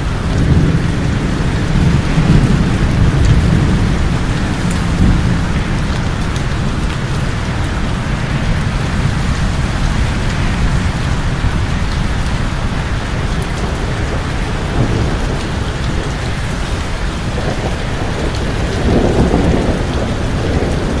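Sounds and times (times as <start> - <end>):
heavy rain falling: 0.0 - 21.0
low rumble of thunder: 0.0 - 21.0.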